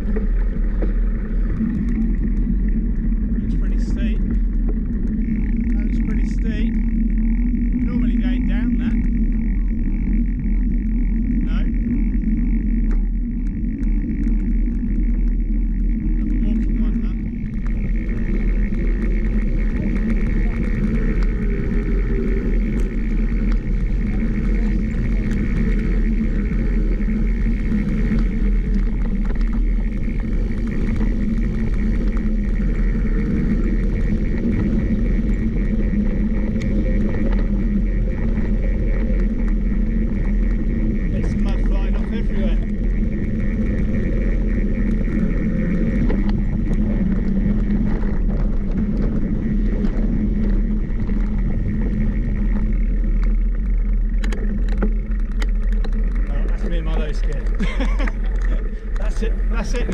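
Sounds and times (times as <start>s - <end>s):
engine whine: 0.0s - 59.9s
vehicle engine drone: 0.0s - 59.9s.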